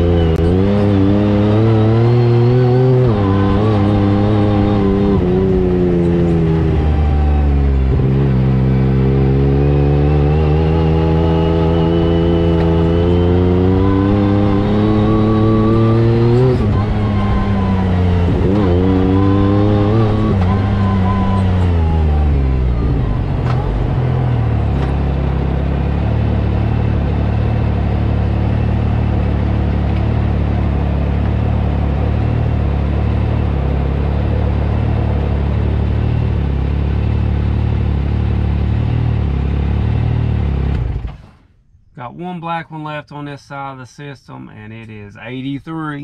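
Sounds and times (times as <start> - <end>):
engine revving and idling: 0.0 - 41.5.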